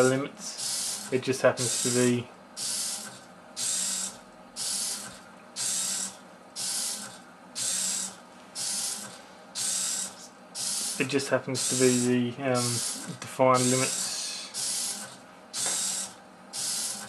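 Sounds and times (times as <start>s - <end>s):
servos buzzing: 0.0s - 17.0s.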